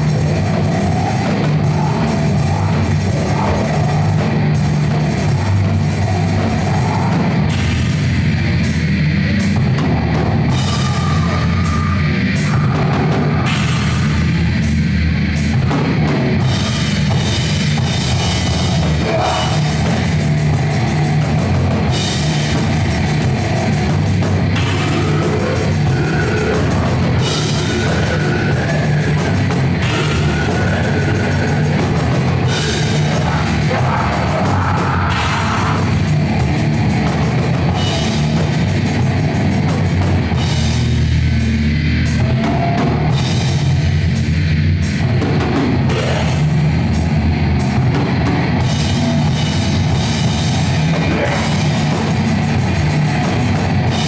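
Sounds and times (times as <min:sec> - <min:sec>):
bass guitar: 0:00.0 - 0:54.0
drum kit with crashing cymbals: 0:00.0 - 0:54.0
electric guitars: 0:00.0 - 0:54.0.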